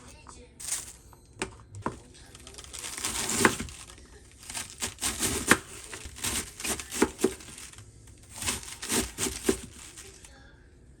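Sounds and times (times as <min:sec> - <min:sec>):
crinkles and clicks from handling: 0:00.6 - 0:10.3.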